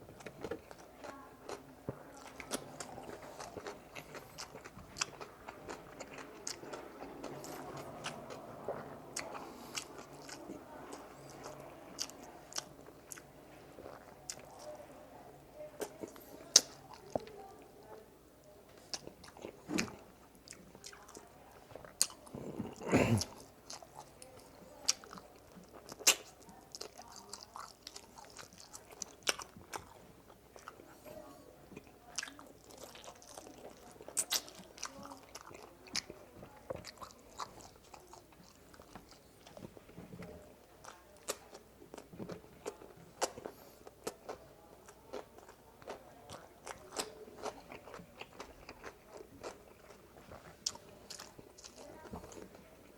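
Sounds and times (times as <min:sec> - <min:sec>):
chewing and crunching food: 0:00.0 - 0:52.9.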